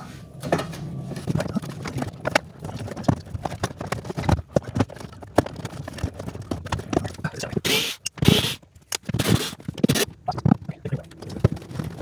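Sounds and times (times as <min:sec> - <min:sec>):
cable knocking and scraping in conduit: 0:00.4 - 0:12.0.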